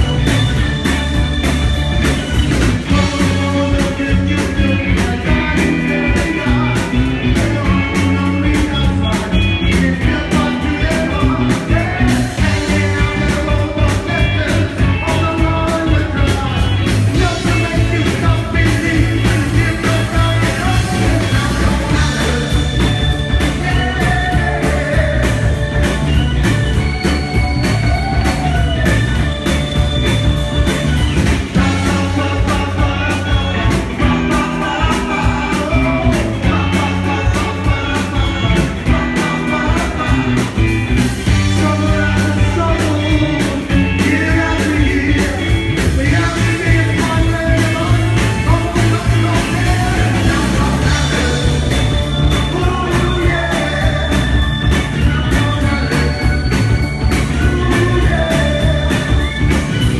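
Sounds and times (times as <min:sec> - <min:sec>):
live rock band playing: 0:00.0 - 0:59.9
man singing lead: 0:00.0 - 0:59.9.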